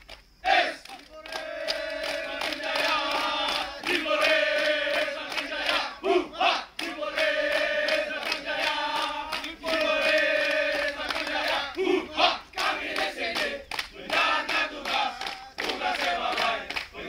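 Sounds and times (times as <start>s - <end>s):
men chanting in unison: 0.4s - 17.0s.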